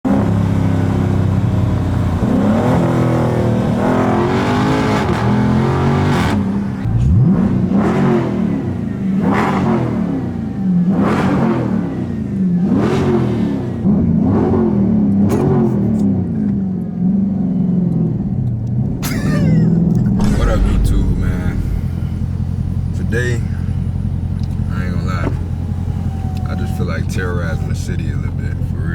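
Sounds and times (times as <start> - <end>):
car engine revving: 0.1 - 16.4, 17.0 - 28.9.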